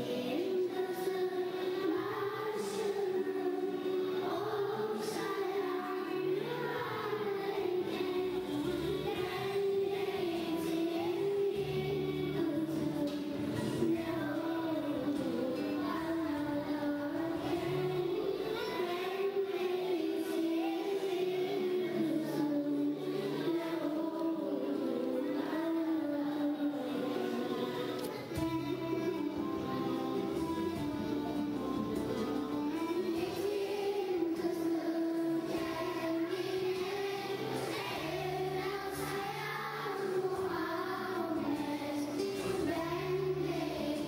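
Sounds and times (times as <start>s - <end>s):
girls choir singing a hymn: 0.0s - 44.0s.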